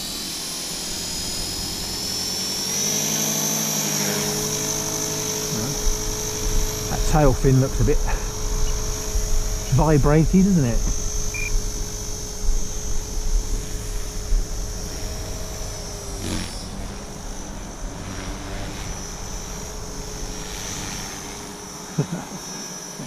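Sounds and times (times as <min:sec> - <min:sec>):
rc helicopter motor whine: 0:00.0 - 0:23.0.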